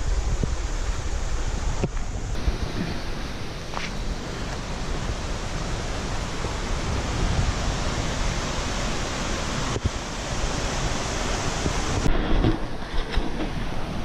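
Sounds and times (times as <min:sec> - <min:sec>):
creek rapids rushing: 0:00.0 - 0:14.0.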